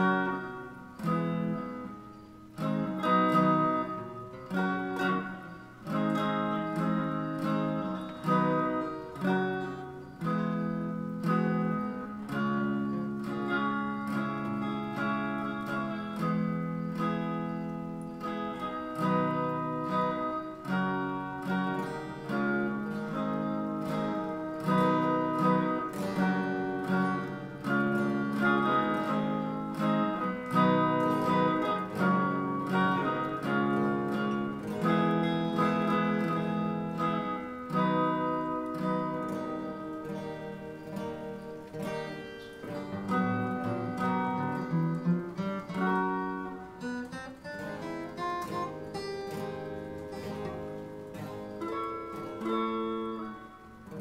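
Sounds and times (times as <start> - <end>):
guitar picked and strummed: 0.0 - 54.0.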